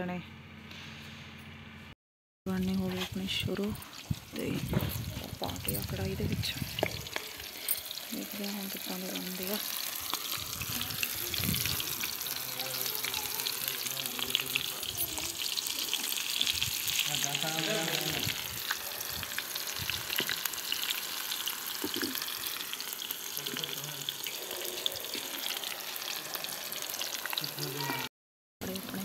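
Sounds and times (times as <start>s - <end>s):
deep-frying crackling sizzle: 2.6s - 29.0s.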